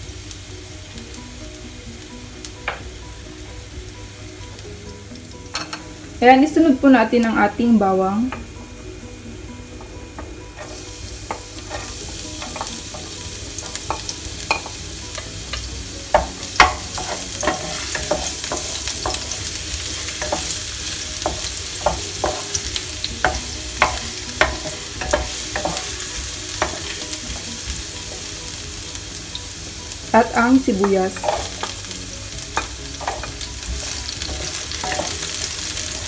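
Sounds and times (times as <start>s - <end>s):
garlic sizzling in hot oil: 0.0s - 36.0s.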